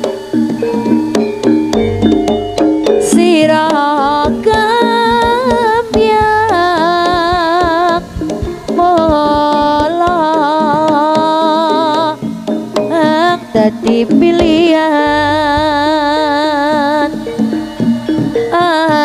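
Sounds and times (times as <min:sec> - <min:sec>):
hand drum strokes: 0:00.0 - 0:19.0
struck metal tones: 0:00.0 - 0:19.0
wavering lead melody: 0:00.0 - 0:19.0.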